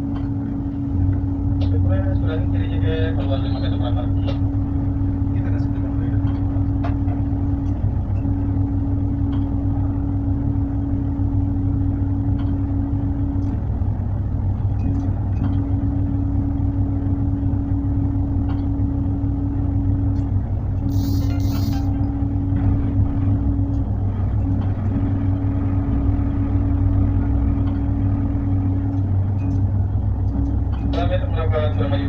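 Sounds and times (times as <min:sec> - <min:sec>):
diesel engine drone: 0:00.0 - 0:32.0
steady hum: 0:00.0 - 0:32.0.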